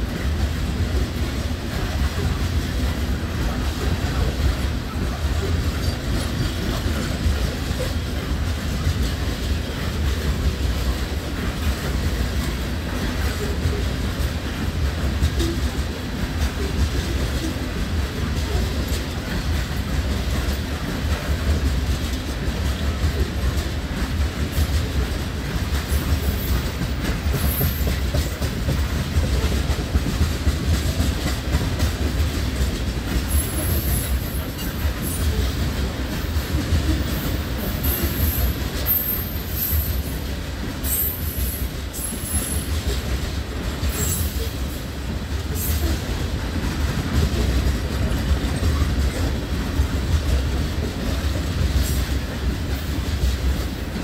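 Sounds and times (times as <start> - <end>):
train wheels rumbling and rattling: 0.0 - 54.0.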